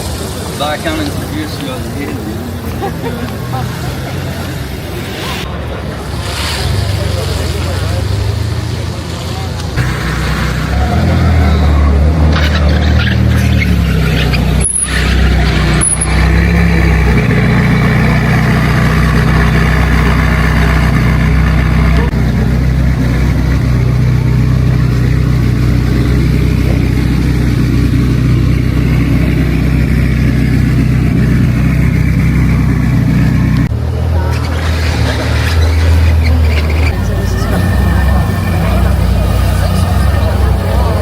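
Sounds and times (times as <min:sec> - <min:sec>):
street traffic: 0:00.0 - 0:41.0
vehicle engine running: 0:00.0 - 0:41.0.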